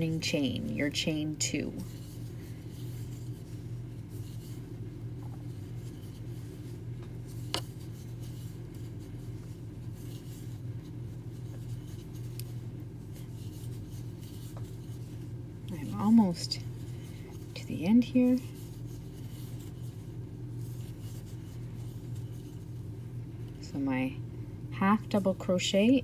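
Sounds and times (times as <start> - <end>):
steady low hum: 0.0 - 26.0
crochet hook rubbing yarn: 0.4 - 22.8.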